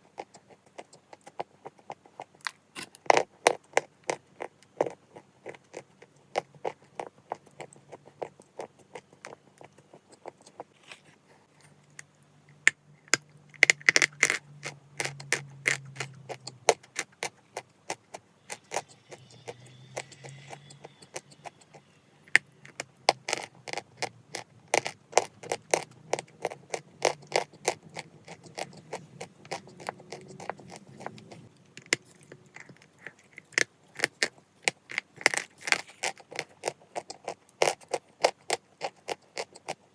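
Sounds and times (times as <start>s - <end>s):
chalk being chewed crunching: 0.0s - 39.9s.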